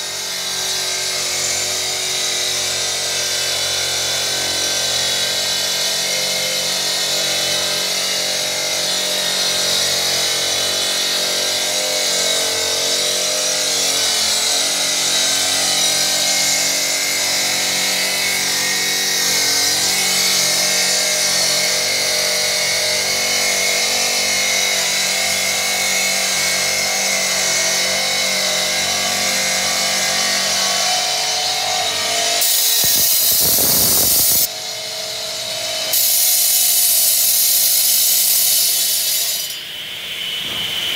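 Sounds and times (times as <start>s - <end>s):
saw blade cutting stone: 0.0s - 40.9s.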